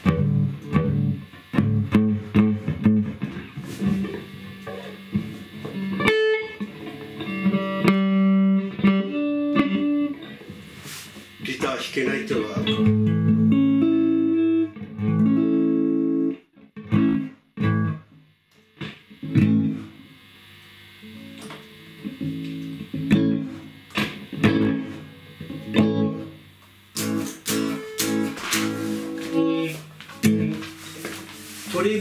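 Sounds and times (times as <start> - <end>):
electric guitar chords and notes: 0.0 - 32.0.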